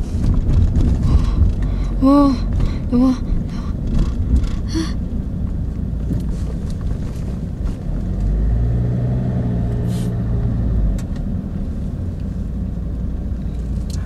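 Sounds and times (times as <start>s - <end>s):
car engine hum: 0.0s - 14.0s
tyre and road noise: 0.0s - 14.0s.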